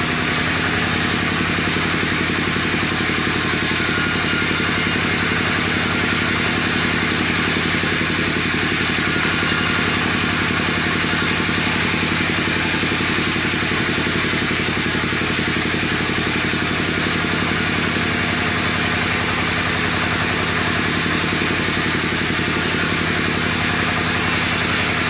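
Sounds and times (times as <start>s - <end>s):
sawing machine engine humming: 0.0s - 25.0s.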